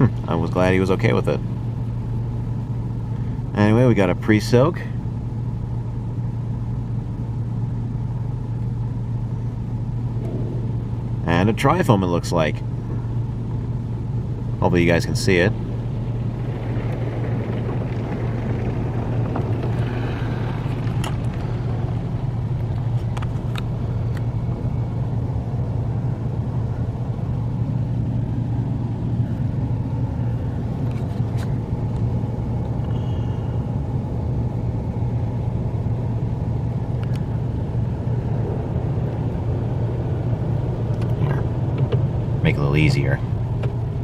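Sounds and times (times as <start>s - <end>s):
car wash low hum: 0.0s - 44.0s.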